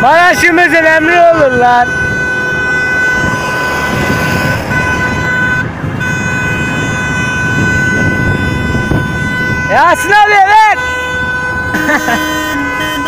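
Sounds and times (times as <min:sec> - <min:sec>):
moving cars rushing: 0:00.0 - 0:13.0
wind: 0:00.0 - 0:13.0
car horn blast: 0:00.9 - 0:13.0.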